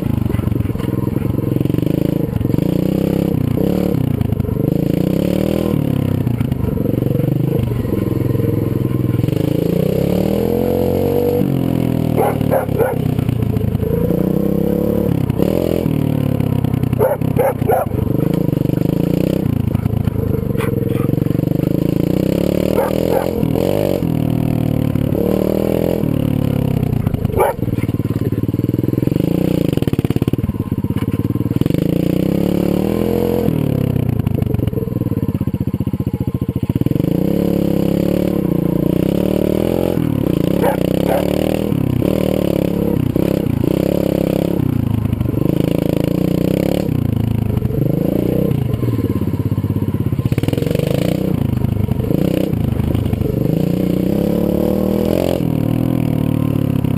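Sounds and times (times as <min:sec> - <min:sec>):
motorbike engine revving: 0:00.0 - 0:56.9.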